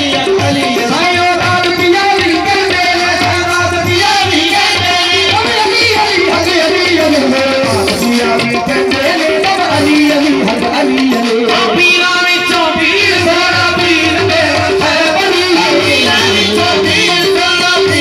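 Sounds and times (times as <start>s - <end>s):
person singing: 0.0s - 18.0s
tabla beat: 0.0s - 18.0s.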